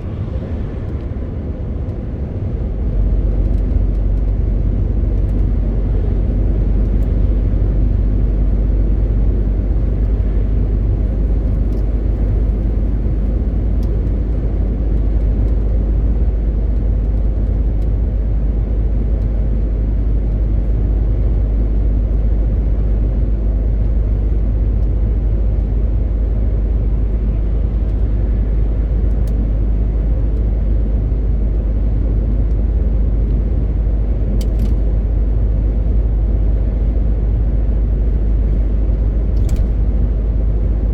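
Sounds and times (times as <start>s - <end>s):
lorry engine and road noise: 0.0s - 40.9s.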